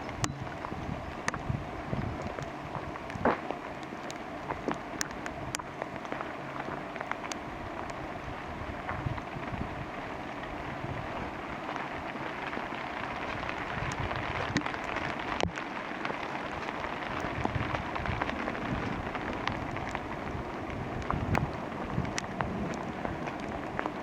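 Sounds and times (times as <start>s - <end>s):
raindrops ticking close by: 0.0s - 24.0s
steady rain: 0.0s - 24.0s.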